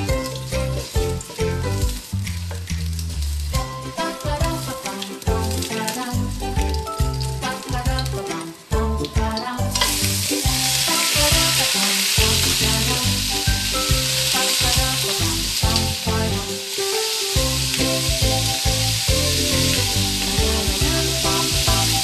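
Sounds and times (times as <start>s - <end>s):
background music with steady beat: 0.0s - 22.0s
meat sizzling in hot oil: 0.0s - 22.0s.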